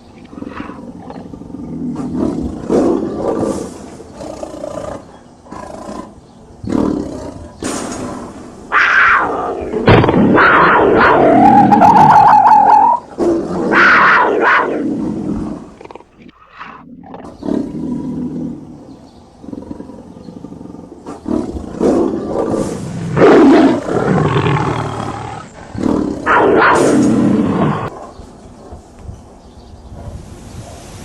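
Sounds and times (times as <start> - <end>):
tiger roaring and growling: 0.0 - 28.5.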